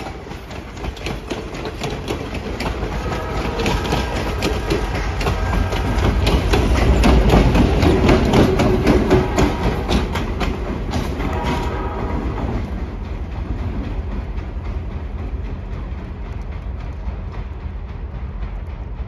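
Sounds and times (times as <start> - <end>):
diesel locomotive rumble: 0.0 - 19.0
train wheels clicking over rails: 0.0 - 19.0.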